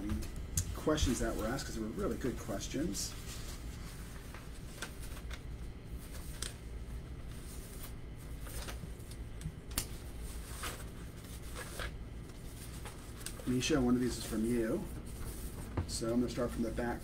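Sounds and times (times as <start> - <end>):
paper rustling and flapping: 0.0 - 17.0.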